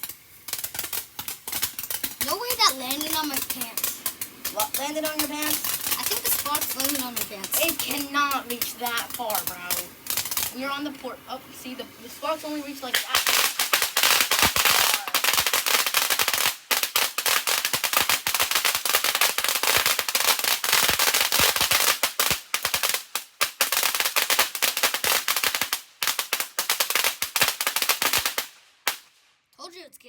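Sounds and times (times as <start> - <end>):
firework cracks and pops: 0.0 - 29.7.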